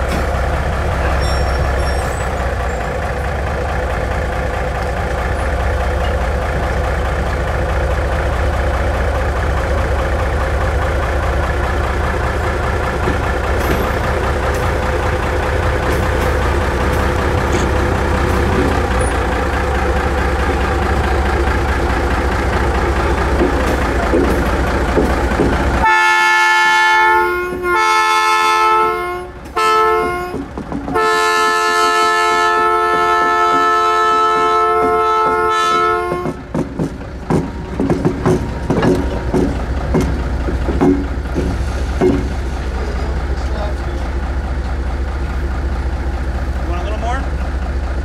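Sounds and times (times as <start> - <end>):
diesel locomotive engine rumbling: 0.0 - 48.0.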